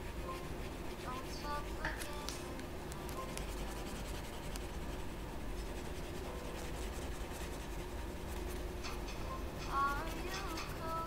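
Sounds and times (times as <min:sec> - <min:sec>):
crayon scratching on paper: 0:00.0 - 0:02.4, 0:03.0 - 0:08.7, 0:09.7 - 0:11.0
low steady hum: 0:00.0 - 0:11.0.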